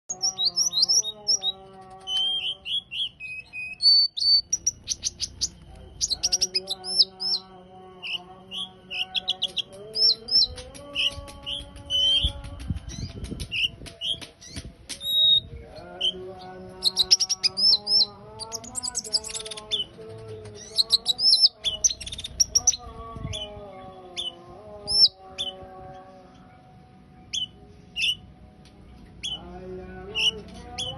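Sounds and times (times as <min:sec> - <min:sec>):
songbird singing: 0:00.0 - 0:30.9
background music: 0:00.1 - 0:30.9.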